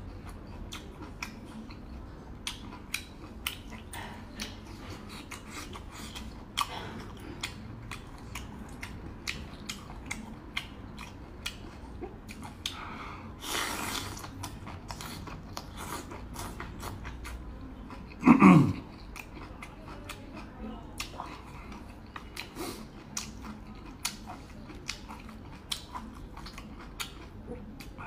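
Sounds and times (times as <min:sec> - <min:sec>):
wet chewing with mouth clicks: 0:00.0 - 0:28.0.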